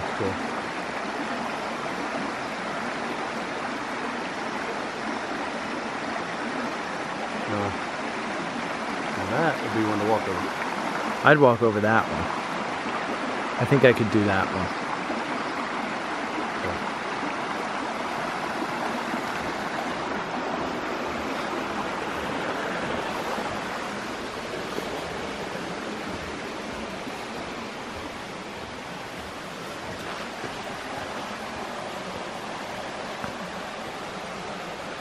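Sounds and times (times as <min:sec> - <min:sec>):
creek water flowing over rocks: 0:00.0 - 0:35.0.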